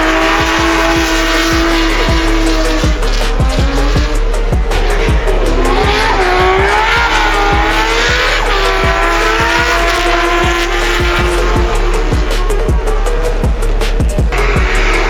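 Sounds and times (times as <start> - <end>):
background music with beat: 0.0 - 15.0
car engine revving: 0.0 - 15.0.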